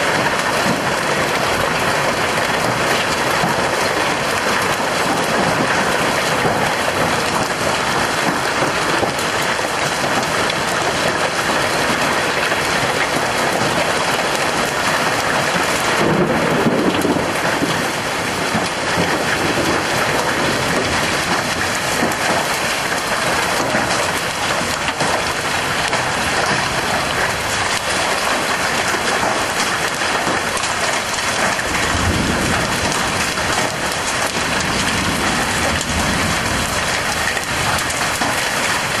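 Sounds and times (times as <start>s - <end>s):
hail and heavy rain clattering: 0.0s - 39.0s.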